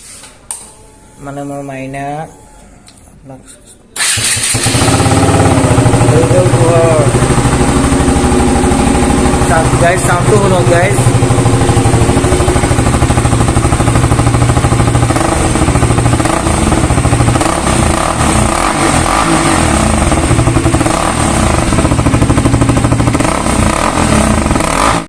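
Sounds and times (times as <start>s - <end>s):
motorcycle engine idling and revving: 4.0s - 25.0s.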